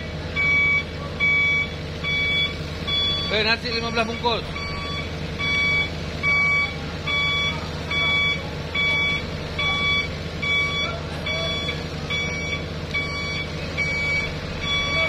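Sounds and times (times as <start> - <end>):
diesel engines humming: 0.0 - 15.0
vehicle reversing alarm beeping: 0.0 - 15.0.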